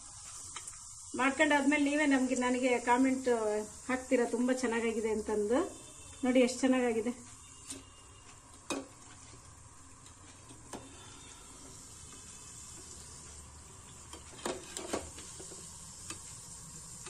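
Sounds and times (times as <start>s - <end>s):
food sizzling in hot oil: 0.0s - 7.6s, 8.5s - 17.0s.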